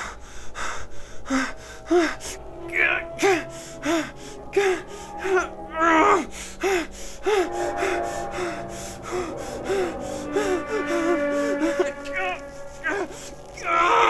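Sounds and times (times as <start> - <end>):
faint music drone: 0.0 - 14.0.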